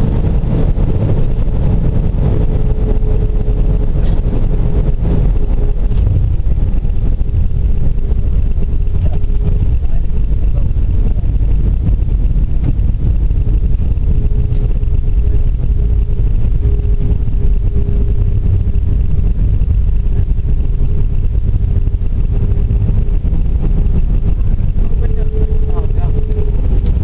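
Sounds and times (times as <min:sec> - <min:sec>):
airplane cabin low rumble: 0:00.0 - 0:27.0
steady engine hum: 0:00.0 - 0:27.0.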